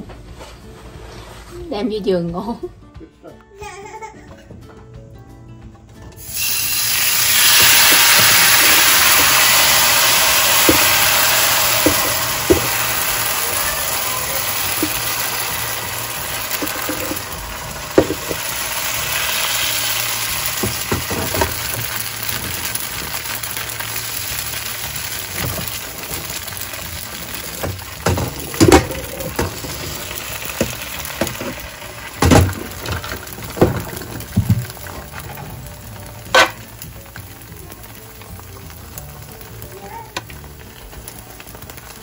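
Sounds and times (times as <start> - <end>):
batter sizzling in a wok: 6.2 - 42.0.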